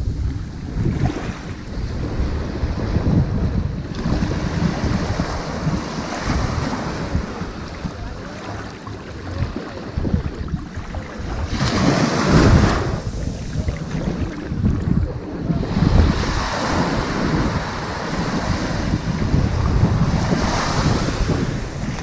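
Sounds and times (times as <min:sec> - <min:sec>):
ocean surf washing onto beach: 0:00.0 - 0:22.0
wind buffeting microphone: 0:00.0 - 0:22.0.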